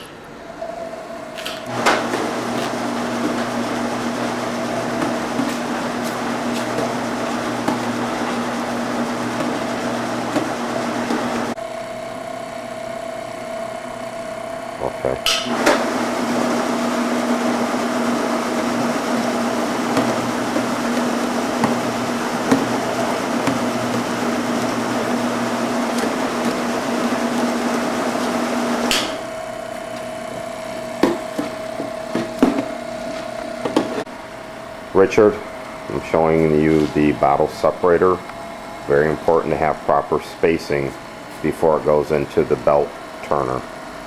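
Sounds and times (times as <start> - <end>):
lower motor hum: 0.0 - 40.1
conveyor motor hum: 0.0 - 44.0.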